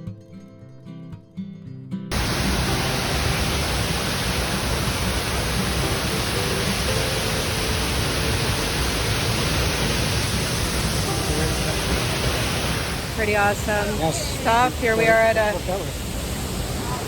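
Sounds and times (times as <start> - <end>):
acoustic guitar strumming: 0.0 - 15.5
loud waterfall roar: 2.1 - 17.0.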